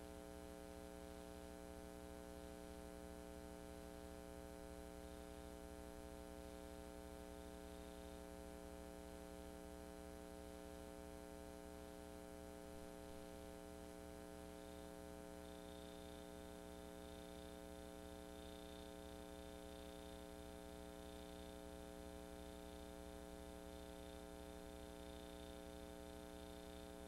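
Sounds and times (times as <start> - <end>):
quiet electrical hum: 0.0 - 27.0.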